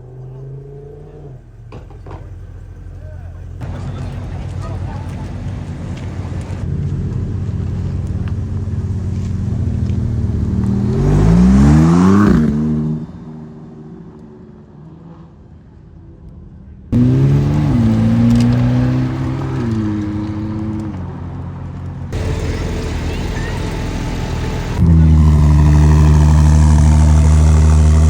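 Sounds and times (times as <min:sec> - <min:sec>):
car engine revving: 0:00.0 - 0:14.3, 0:16.9 - 0:28.0.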